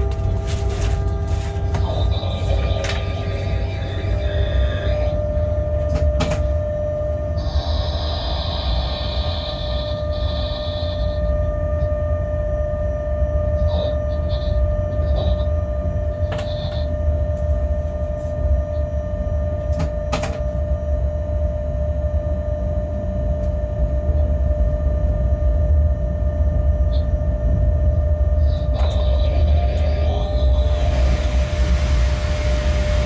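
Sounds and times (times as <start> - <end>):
locomotive low rumble and hum: 0.0 - 33.0.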